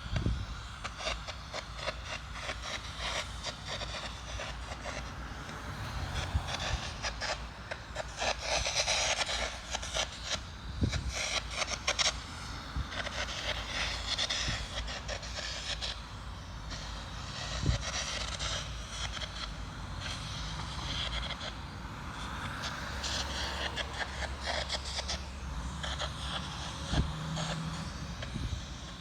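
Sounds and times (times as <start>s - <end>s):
arc welding crackling: 0.0s - 29.0s.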